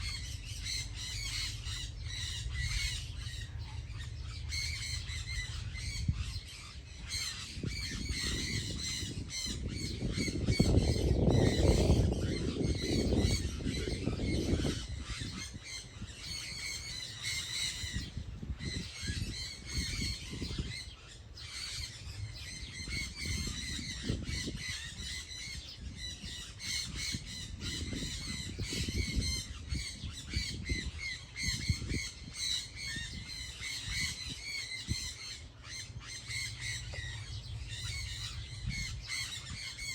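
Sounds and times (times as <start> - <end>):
many birds calling: 0.0 - 39.9.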